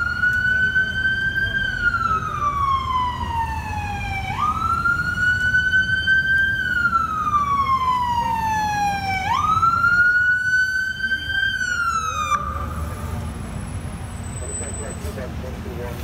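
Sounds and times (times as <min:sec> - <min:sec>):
ambulance siren wailing: 0:00.0 - 0:13.4
low traffic rumble: 0:00.0 - 0:16.0.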